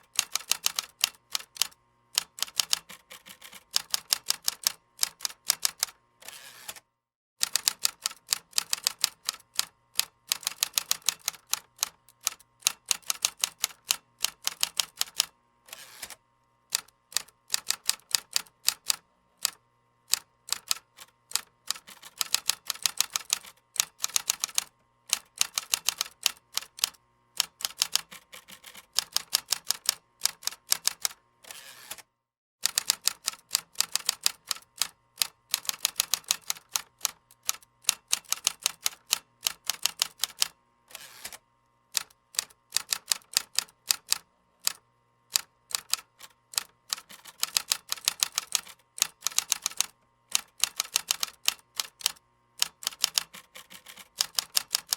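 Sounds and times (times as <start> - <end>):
computer keyboard typing: 0.1 - 6.0, 7.4 - 15.3, 16.7 - 31.2, 32.6 - 40.6, 42.0 - 54.9.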